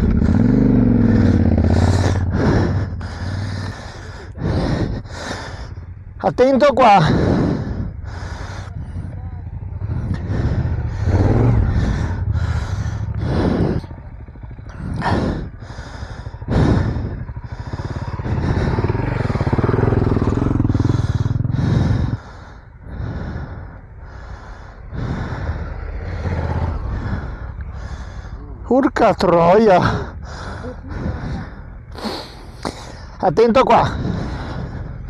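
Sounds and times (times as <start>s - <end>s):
heavy breathing: 0.0s - 35.0s
motorcycle engine at low revs: 0.0s - 35.0s.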